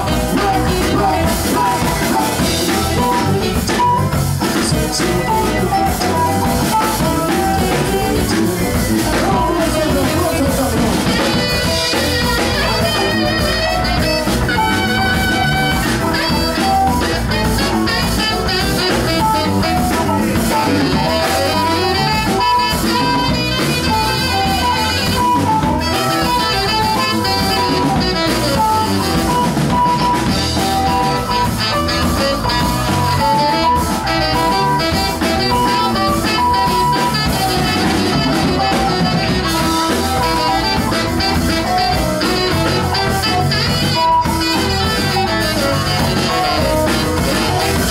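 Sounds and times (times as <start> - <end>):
live latin rock band: 0.0 - 47.9
saxophone: 0.0 - 47.9.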